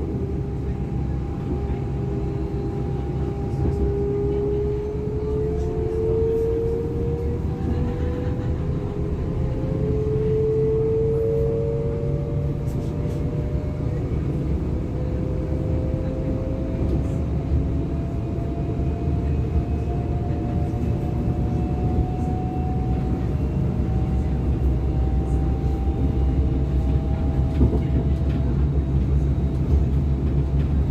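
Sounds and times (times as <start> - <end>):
train wheels rumbling on track: 0.0 - 30.9.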